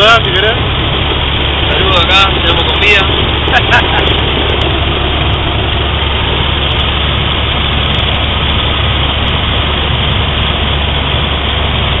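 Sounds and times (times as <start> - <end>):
small plane engine and propeller: 0.0 - 12.0.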